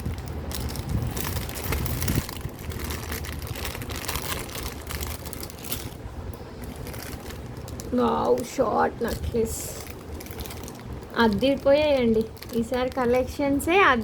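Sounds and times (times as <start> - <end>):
low steady hum: 0.0 - 14.0
plastic packaging crinkling: 0.0 - 14.0.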